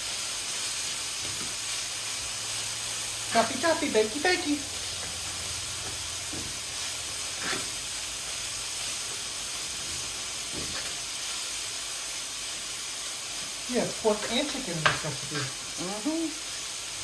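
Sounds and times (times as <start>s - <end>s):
bacon sizzling in a pan: 0.0s - 17.0s.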